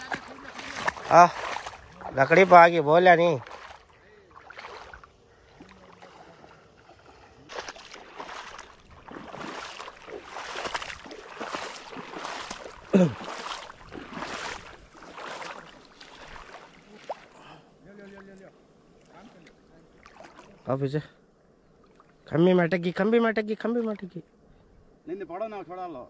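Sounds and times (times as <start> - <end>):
shallow water splashing: 0.0 - 20.8, 21.7 - 22.3.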